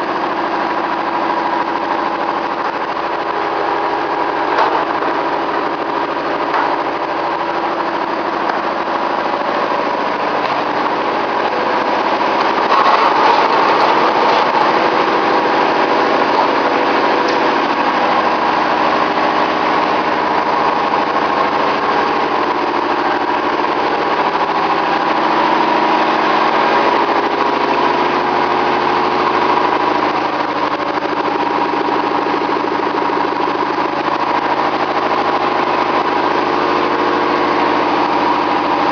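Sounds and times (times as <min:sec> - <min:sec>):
milling machine hum and whine: 0:00.0 - 0:38.9.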